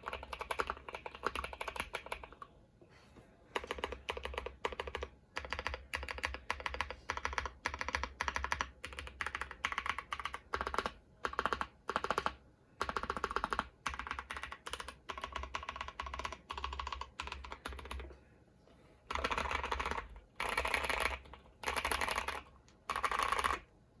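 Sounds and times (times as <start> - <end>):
mechanical keyboard typing: 0.0 - 2.5, 3.5 - 18.1, 19.1 - 23.7.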